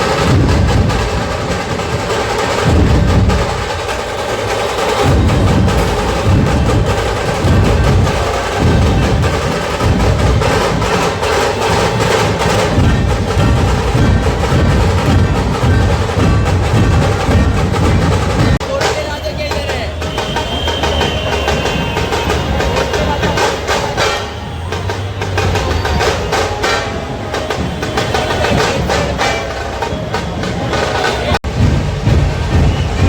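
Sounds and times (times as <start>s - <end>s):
large drums beating: 0.0s - 33.0s
smaller percussion: 0.0s - 33.0s
sustained pitched instruments: 2.6s - 33.0s.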